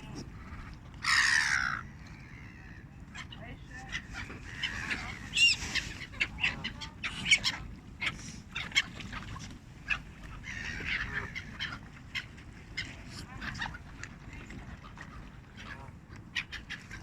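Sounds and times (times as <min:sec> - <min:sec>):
birds calling and chirping: 0:00.0 - 0:17.0.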